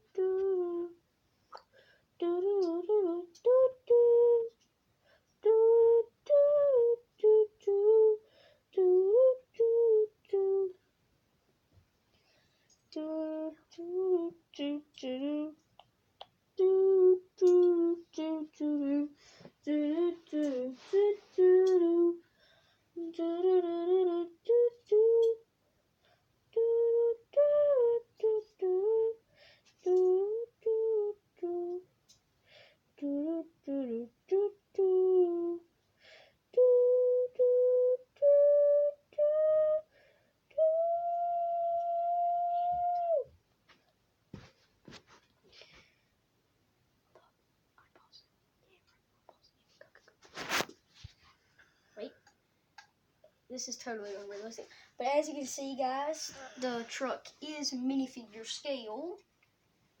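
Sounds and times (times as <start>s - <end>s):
young person singing: 0.0s - 4.7s, 5.4s - 10.9s, 12.9s - 25.5s, 26.5s - 32.0s, 32.9s - 43.3s, 47.1s - 50.2s, 52.0s - 59.3s.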